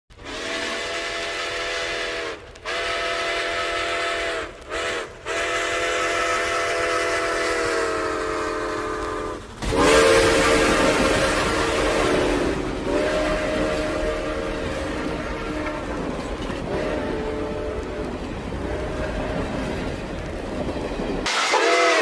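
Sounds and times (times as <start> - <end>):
steam locomotive whistle blasts: 0.2 - 16.0, 16.7 - 19.7, 21.2 - 22.0.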